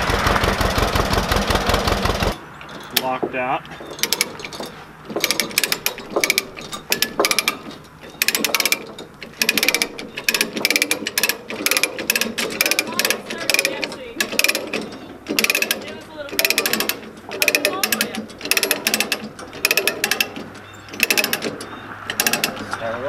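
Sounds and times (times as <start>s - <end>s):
ratchet clicking: 4.0s - 22.8s.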